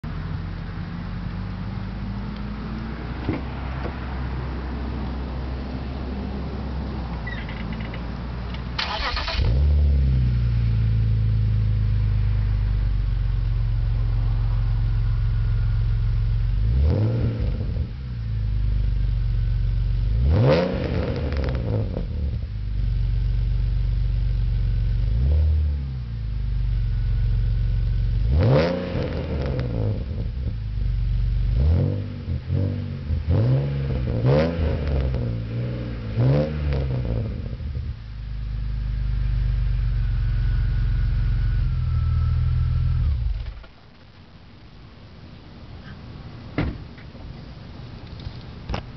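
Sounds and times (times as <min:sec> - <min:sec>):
car engine idling and revving: 0:00.0 - 0:43.8.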